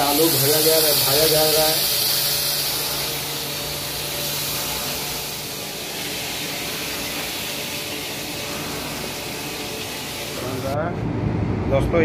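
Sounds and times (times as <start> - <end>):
potatoes sizzling in hot oil: 0.0 - 10.6.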